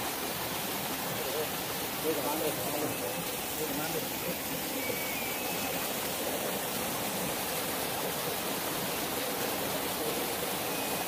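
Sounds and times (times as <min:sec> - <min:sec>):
water rushing from waterfall: 0:00.0 - 0:11.0.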